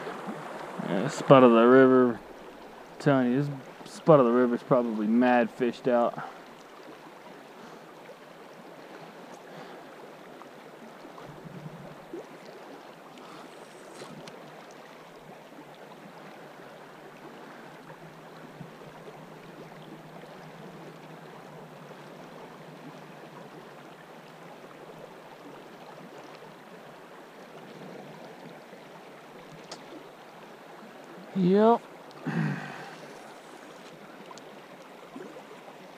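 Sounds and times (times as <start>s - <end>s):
river current rushing: 0.0s - 35.9s.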